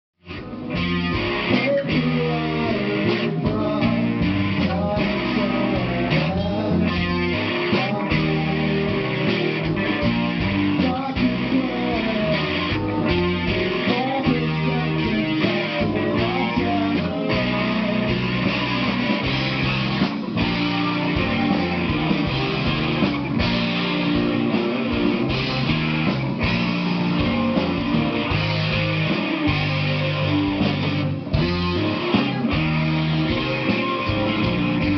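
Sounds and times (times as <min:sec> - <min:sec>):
electric guitar: 0:00.2 - 0:34.9
rock band playing live: 0:00.2 - 0:34.9.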